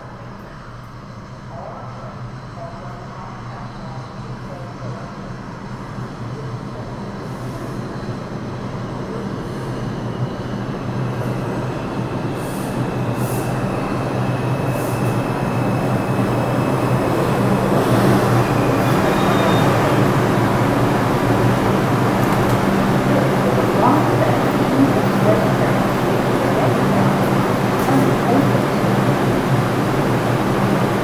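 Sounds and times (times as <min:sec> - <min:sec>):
subway train pulling into station: 0:00.0 - 0:31.0.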